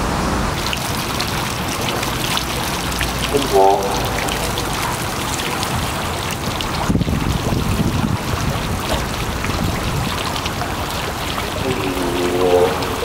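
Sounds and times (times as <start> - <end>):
running water splashing: 0.5 - 13.0.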